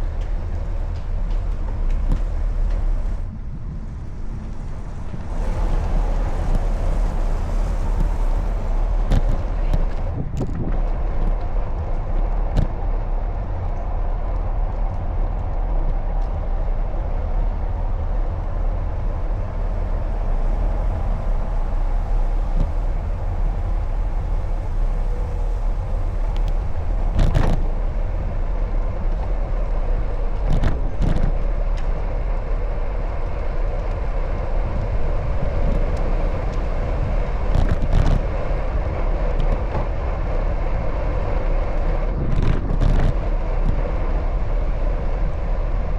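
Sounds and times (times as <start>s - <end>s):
car traffic: 0.0s - 45.9s
low riding rumble: 0.0s - 45.9s.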